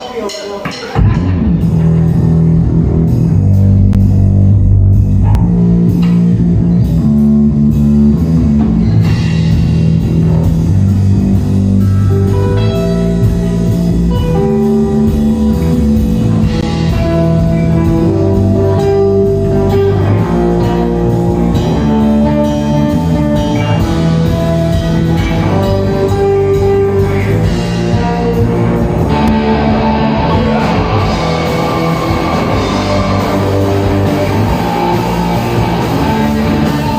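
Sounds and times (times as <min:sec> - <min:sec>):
drum kit: 0:00.0 - 0:36.9
electric guitars: 0:00.6 - 0:36.9
bass guitar: 0:01.0 - 0:36.9.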